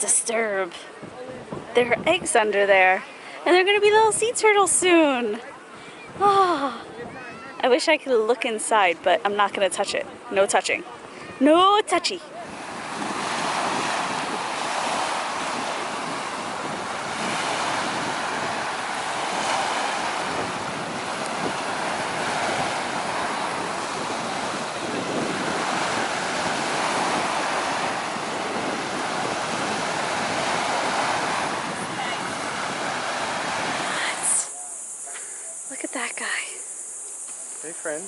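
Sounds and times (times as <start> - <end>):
waves breaking on beach: 0.0 - 38.0.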